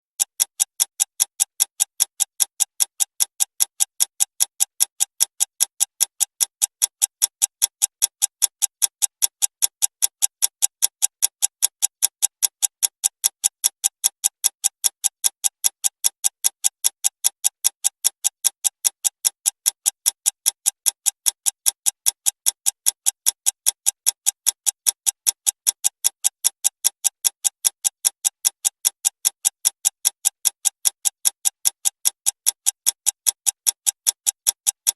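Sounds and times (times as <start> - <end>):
clock ticking fast: 0.2 - 34.9.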